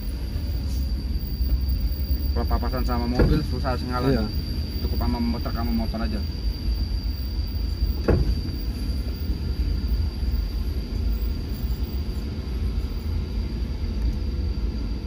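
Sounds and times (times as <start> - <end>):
vehicle rumbling on rough road: 0.0 - 15.0.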